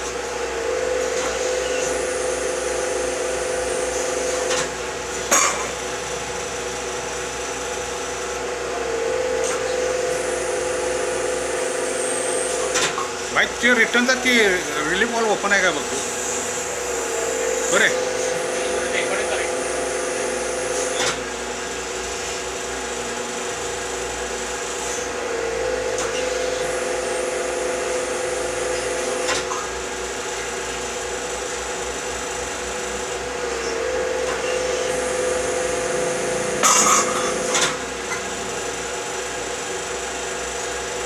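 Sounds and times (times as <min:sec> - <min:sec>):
hydraulic power pack whining: 0:00.0 - 0:41.0.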